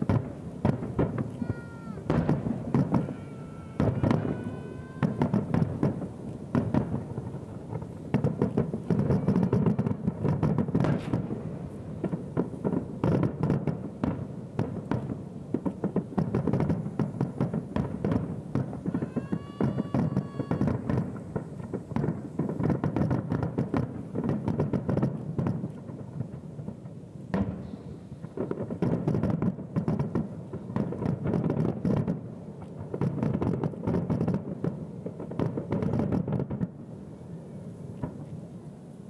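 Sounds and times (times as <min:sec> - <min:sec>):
fireworks sharp cracks: 0:00.0 - 0:38.6
distant fireworks booms: 0:00.0 - 0:39.0.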